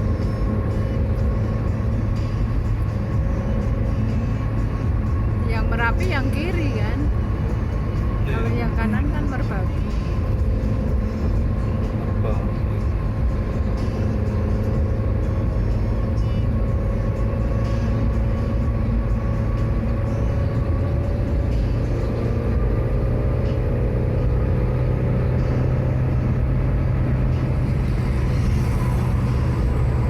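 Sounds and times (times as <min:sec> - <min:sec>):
tyres and engine rumble: 0:00.0 - 0:30.0.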